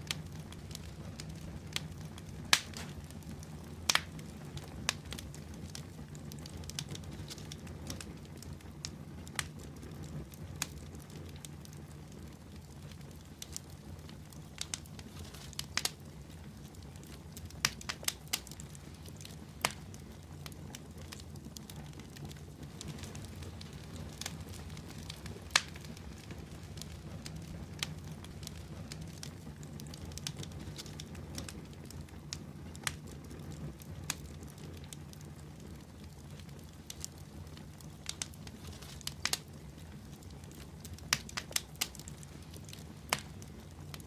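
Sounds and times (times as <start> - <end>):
fire crackling and popping: 0.0 - 44.0
low rumble of flames: 0.0 - 44.0.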